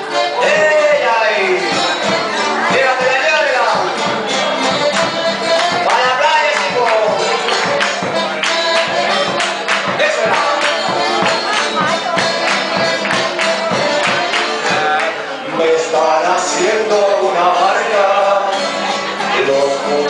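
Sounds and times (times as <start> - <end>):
folk band playing a waltz: 0.0 - 20.0
person singing: 0.0 - 20.0.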